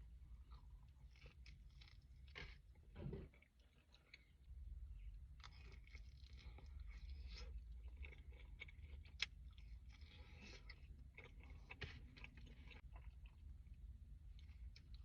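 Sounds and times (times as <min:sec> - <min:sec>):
person chewing food: 0:00.1 - 0:15.0.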